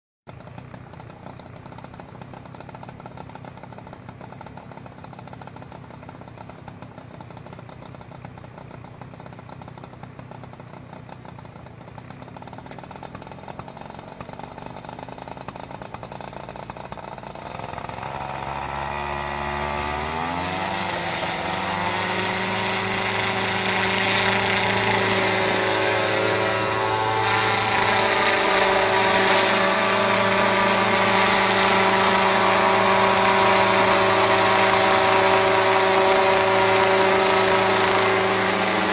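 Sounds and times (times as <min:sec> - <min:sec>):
helicopter engine spooling up: 0:00.7 - 0:38.9.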